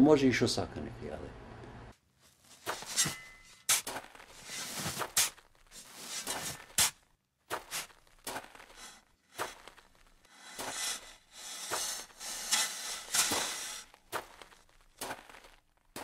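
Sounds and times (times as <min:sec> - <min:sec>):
footsteps crunching on gravel: 0:02.2 - 0:16.0.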